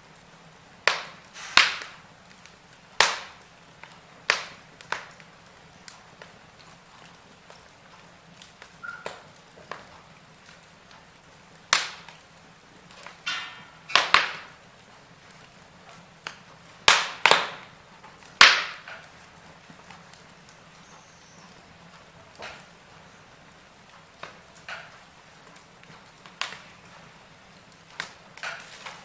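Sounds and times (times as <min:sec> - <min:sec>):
faint hiss of fire: 0:00.0 - 0:29.0
wood fire cracks and pops: 0:00.0 - 0:29.0.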